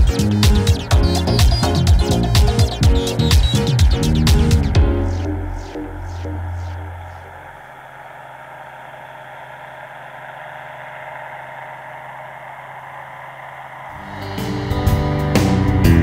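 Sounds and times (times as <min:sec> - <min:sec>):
engine and propeller droning: 0:00.0 - 0:16.0.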